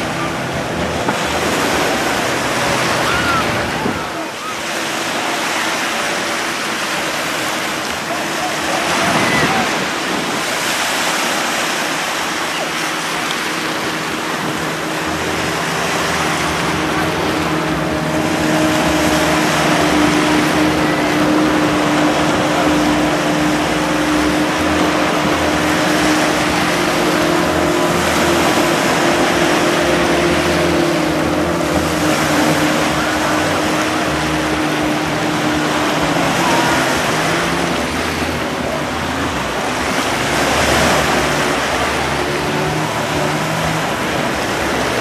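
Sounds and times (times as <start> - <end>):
motorboat engine droning: 0.0 - 45.0
surf washing onto beach: 0.0 - 45.0.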